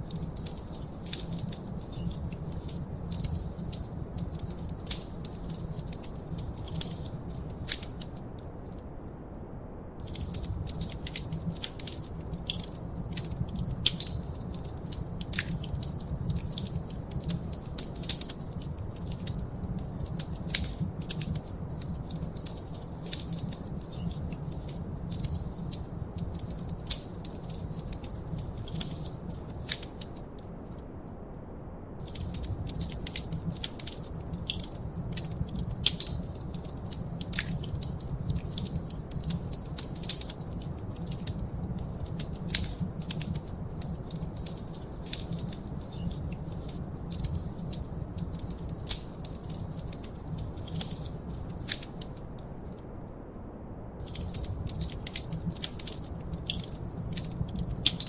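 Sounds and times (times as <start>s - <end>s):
low fire rumble: 0.0s - 8.7s, 9.6s - 31.0s, 31.6s - 58.0s
wood fire crackling: 0.0s - 8.9s, 10.0s - 30.8s, 32.0s - 53.3s, 54.0s - 58.0s.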